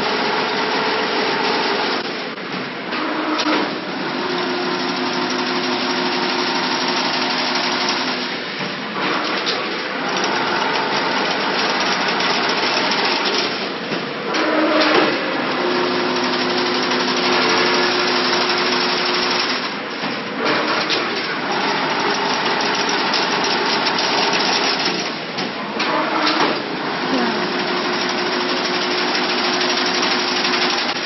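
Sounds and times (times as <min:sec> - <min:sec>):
metallic clatter of weaving machine: 0:04.4 - 0:31.0.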